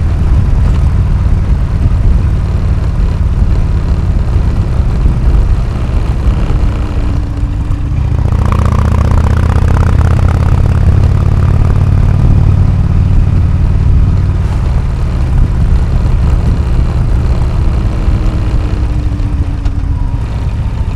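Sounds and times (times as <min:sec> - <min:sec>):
v-twin motorcycle engine running: 0:00.0 - 0:20.9.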